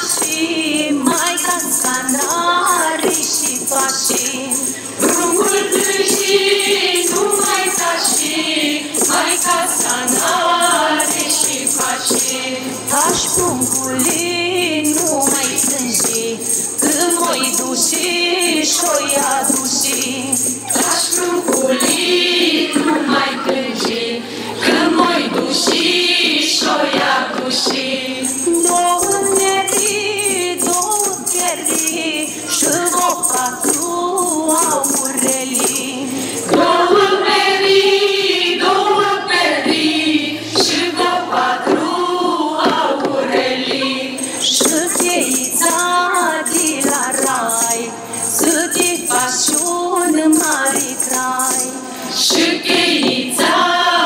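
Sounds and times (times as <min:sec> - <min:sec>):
jingling shaken percussion: 0:00.0 - 0:54.0
mixed choir singing a carol: 0:00.0 - 0:54.0.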